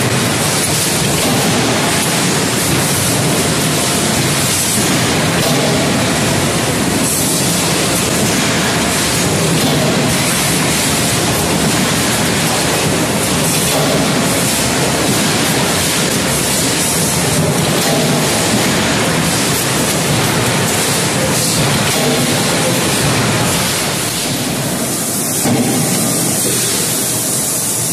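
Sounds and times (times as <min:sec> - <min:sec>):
machinery din: 0:00.0 - 0:27.4.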